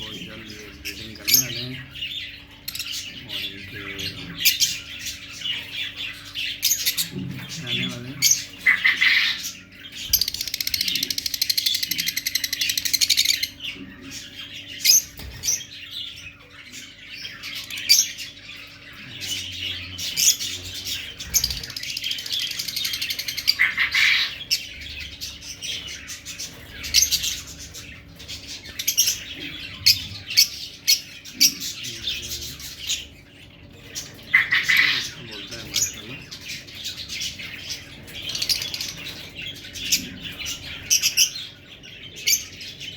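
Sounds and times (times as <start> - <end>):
lovebirds chirping and squawking: 0.0 - 42.9.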